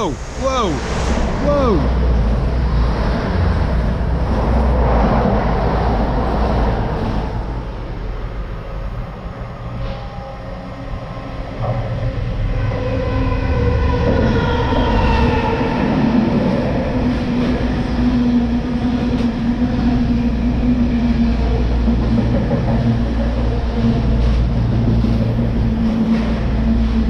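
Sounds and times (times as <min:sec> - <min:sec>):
diesel train rumbling past: 0:00.0 - 0:27.0.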